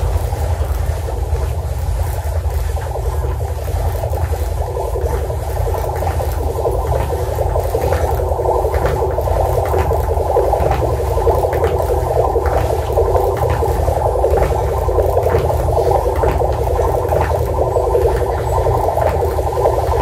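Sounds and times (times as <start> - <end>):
electroacoustic drone over loudspeaker: 0.0 - 20.0.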